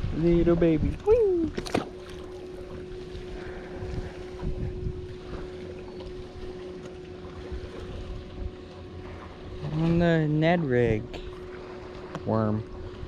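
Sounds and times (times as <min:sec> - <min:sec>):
wind rumbling on microphone: 0:00.0 - 0:06.6, 0:07.2 - 0:13.0
steady hum: 0:00.0 - 0:13.0.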